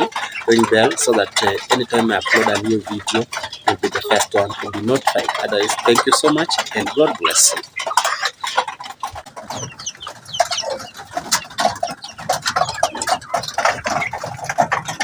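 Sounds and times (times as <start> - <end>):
chickens clucking: 0.0 - 15.0
chicks peeping: 0.0 - 15.0
rustling and scratching: 0.0 - 15.0.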